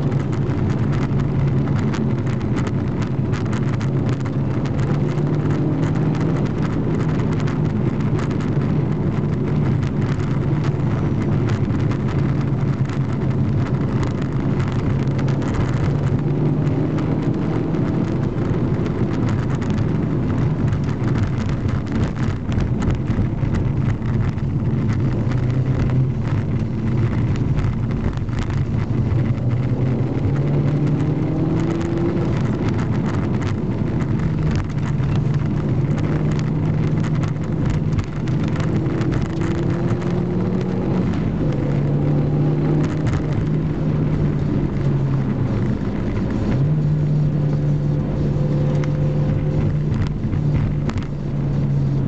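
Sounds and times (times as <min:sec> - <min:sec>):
car engine accelerating: 0:00.0 - 0:52.0
road and tyre noise: 0:00.0 - 0:52.0.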